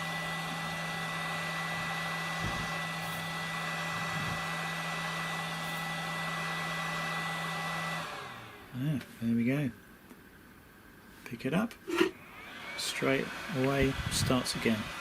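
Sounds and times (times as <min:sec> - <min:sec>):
hot air fan blowing with whine: 0:00.0 - 0:15.0.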